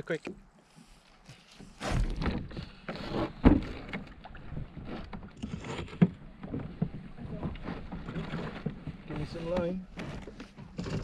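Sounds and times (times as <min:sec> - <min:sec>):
water splashing around a kayak: 0:00.6 - 0:11.0.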